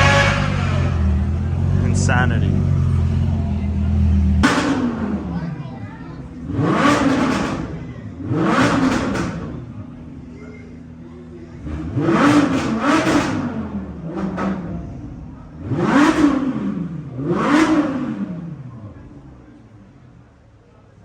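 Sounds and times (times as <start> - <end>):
car engine revving: 0.0 - 20.6.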